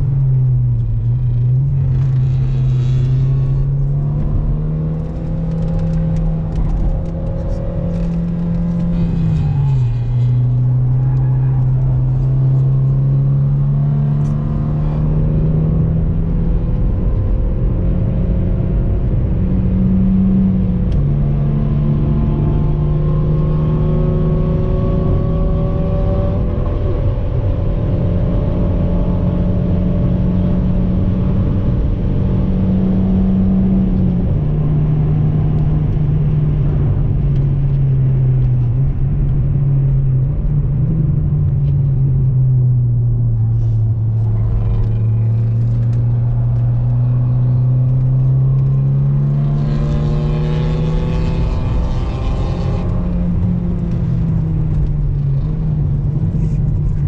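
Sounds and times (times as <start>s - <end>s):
car engine from inside cabin: 0.0s - 57.0s
road and wind rumble: 0.0s - 57.0s.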